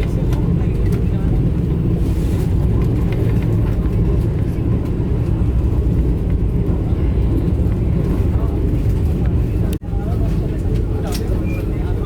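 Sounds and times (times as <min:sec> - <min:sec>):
train rumbling at speed: 0:00.0 - 0:12.0.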